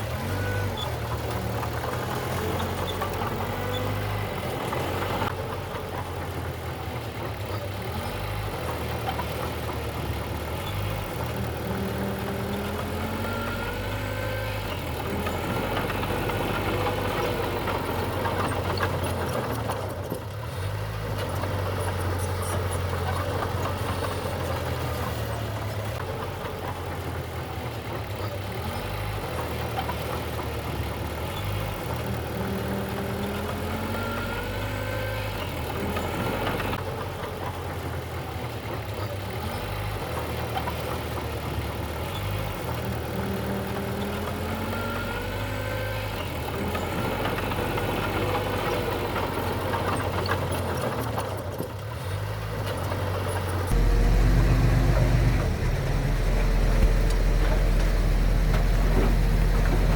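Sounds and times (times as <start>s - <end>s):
heavy machinery diesel engine running: 0.0s - 59.9s.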